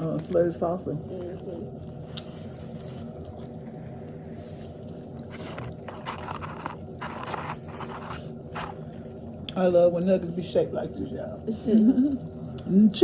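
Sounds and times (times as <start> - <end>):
close-up eating noises: 0.0 - 13.0
steady low hum: 0.0 - 13.0.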